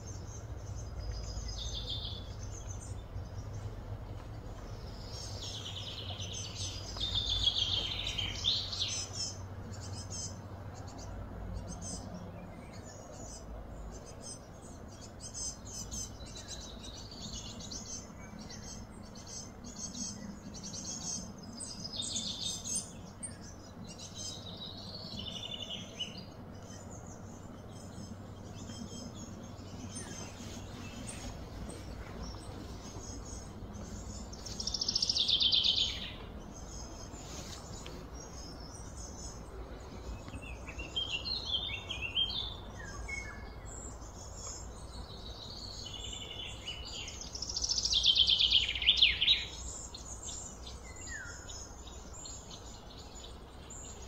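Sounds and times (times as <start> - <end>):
birds chirping and singing: 0.0 - 54.0
low background hum: 0.0 - 54.0.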